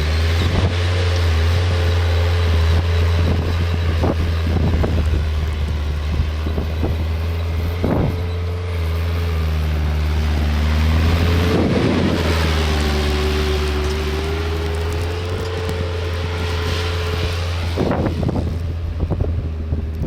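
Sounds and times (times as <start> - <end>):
machinery engine humming: 0.0 - 20.0.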